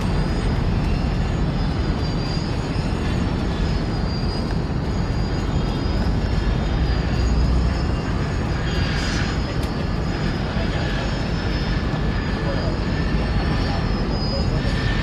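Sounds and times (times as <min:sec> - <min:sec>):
faint high whine: 0:00.0 - 0:15.0
jet engines roaring: 0:00.0 - 0:15.0.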